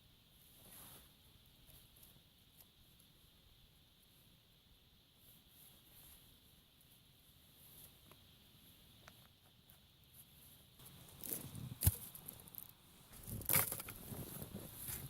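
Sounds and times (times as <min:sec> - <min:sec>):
faint rustling: 0:00.4 - 0:03.3, 0:05.1 - 0:15.0.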